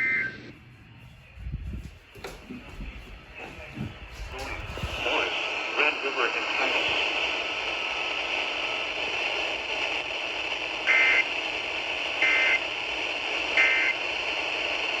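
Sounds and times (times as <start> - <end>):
radio hiss: 2.5 - 15.0.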